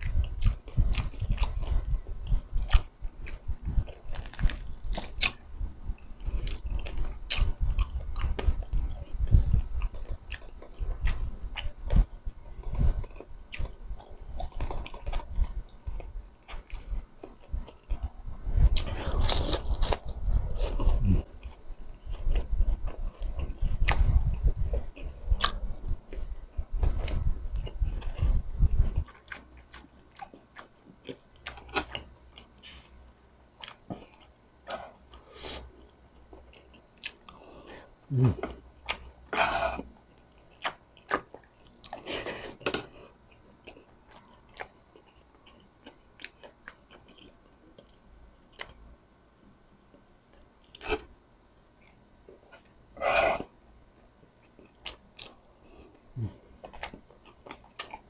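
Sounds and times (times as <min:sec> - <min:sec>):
chewing food: 0:00.0 - 0:33.0, 0:33.6 - 0:48.8, 0:54.3 - 0:58.0.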